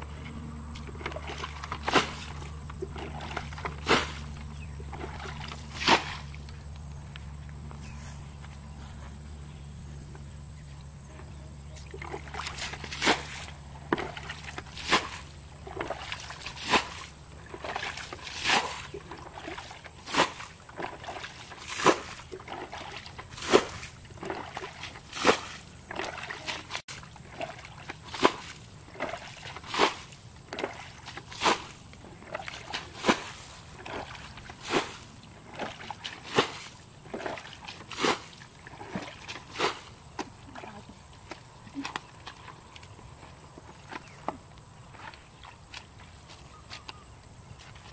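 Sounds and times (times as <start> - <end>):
water sloshing: 0.0 - 7.6, 11.1 - 47.9
bucket splashing water: 0.2 - 6.5, 11.7 - 46.0.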